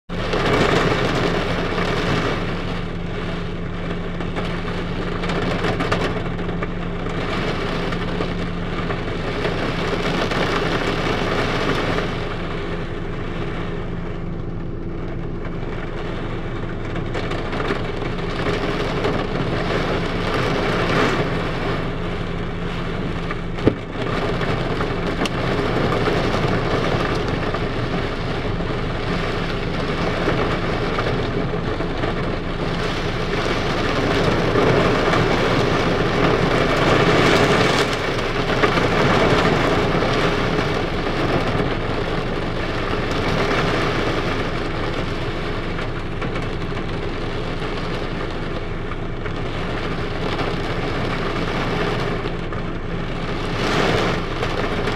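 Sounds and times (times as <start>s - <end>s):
heavy rain on car roof: 0.1s - 54.9s.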